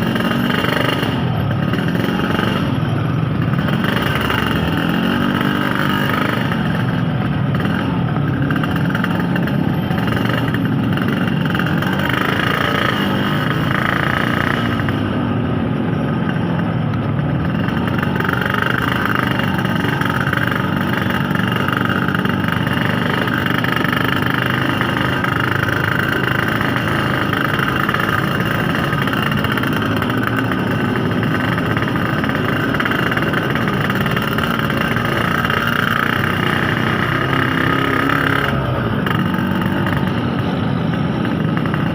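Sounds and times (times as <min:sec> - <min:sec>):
two-stroke motorcycle engine: 0:00.0 - 0:41.9.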